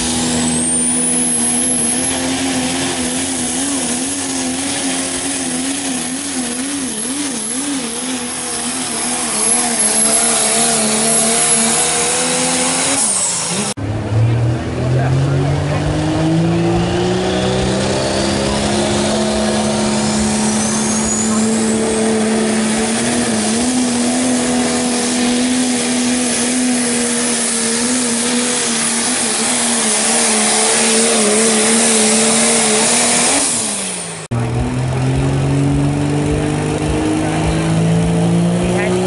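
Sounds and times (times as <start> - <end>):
lower-pitched truck engine: 0.0 - 39.0
pulling truck engine drone: 0.0 - 39.0.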